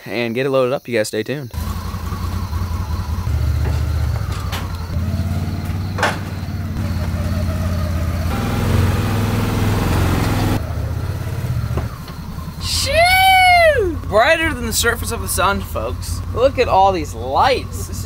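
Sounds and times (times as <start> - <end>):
utv engine running: 1.6 - 18.0.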